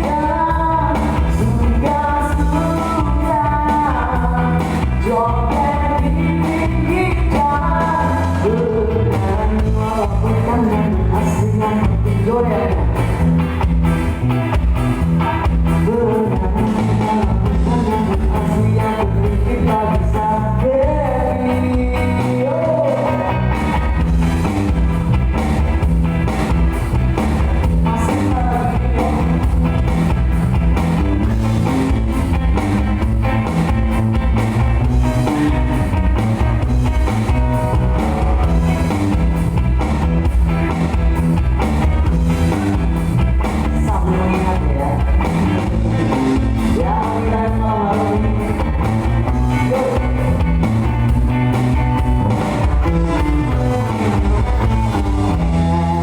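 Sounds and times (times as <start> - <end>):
bass: 0.0 - 56.0
drums: 0.0 - 56.0
guitar: 0.0 - 56.0.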